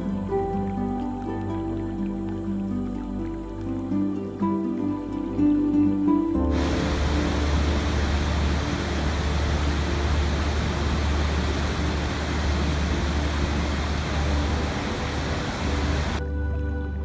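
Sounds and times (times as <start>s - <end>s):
rushing water: 0.0s - 16.2s.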